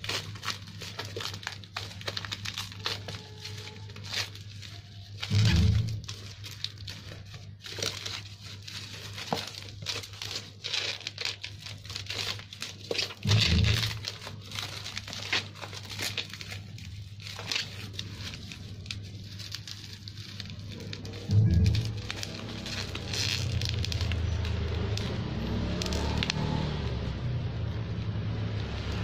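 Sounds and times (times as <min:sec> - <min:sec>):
bubble wrap crinkling and tearing: 0:00.0 - 0:29.0.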